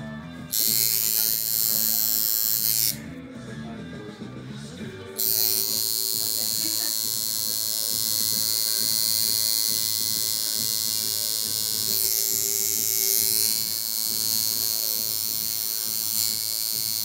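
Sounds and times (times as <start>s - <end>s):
tattoo machine buzzing: 0.4s - 3.1s, 5.2s - 17.0s.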